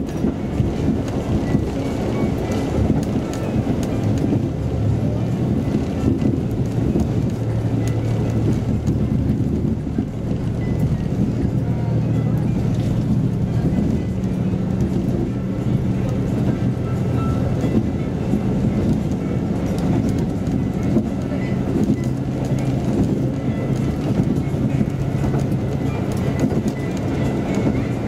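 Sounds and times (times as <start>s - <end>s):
diesel engine drone: 0.0s - 28.0s
wheels clicking over rail joints: 0.0s - 28.0s.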